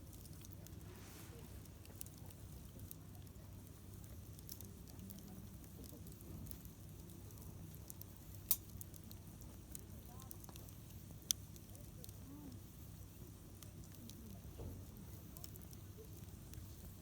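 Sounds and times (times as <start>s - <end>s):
campfire crackling and popping: 0.0s - 17.0s
low steady rumble: 0.0s - 17.0s.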